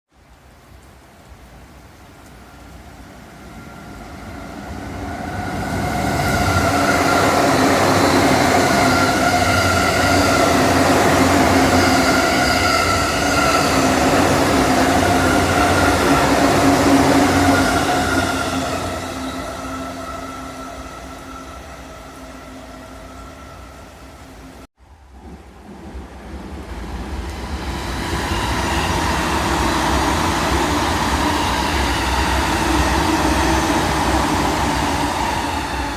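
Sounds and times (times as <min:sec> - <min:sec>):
electric train passing: 0:03.0 - 0:35.9.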